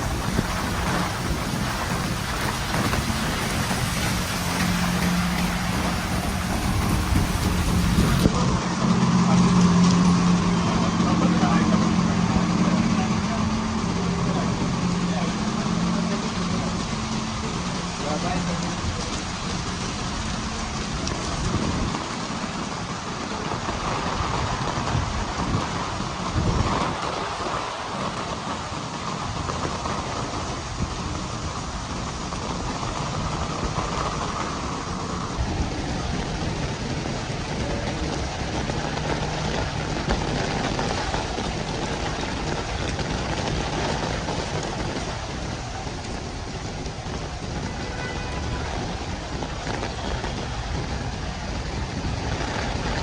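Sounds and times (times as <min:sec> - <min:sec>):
heavy rain: 0:00.0 - 0:53.0
low rumbles: 0:00.0 - 0:53.0.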